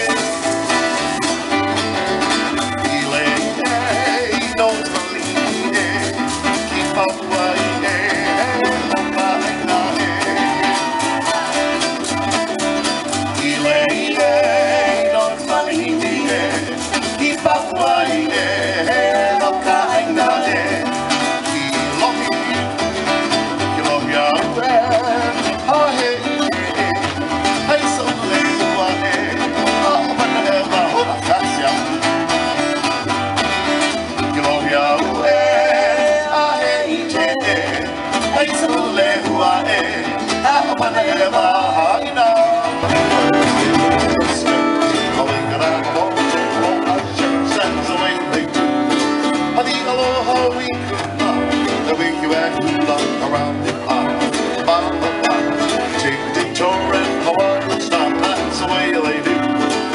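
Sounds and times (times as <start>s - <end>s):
person singing: 0.0s - 32.6s, 33.9s - 59.9s
strummed acoustic guitar: 0.0s - 59.9s.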